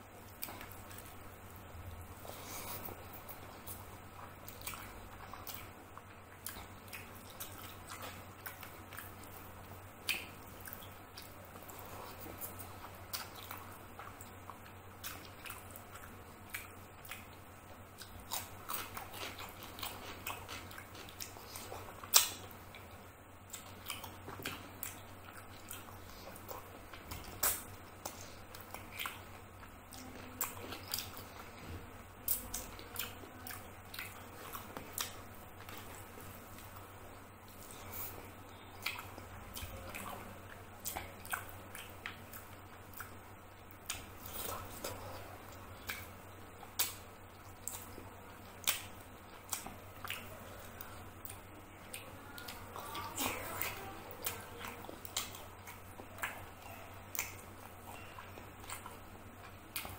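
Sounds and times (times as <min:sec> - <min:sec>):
chewing and wet mouth clicks: 0:02.3 - 0:17.4, 0:18.0 - 0:31.5, 0:32.2 - 0:36.9, 0:37.5 - 0:59.9.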